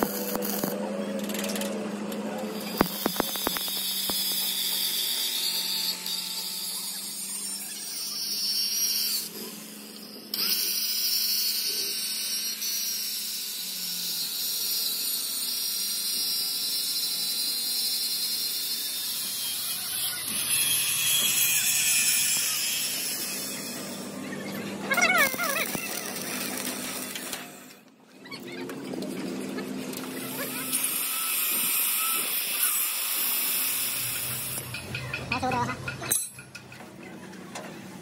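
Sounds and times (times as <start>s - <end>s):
power tool whining: 0.0s - 35.3s.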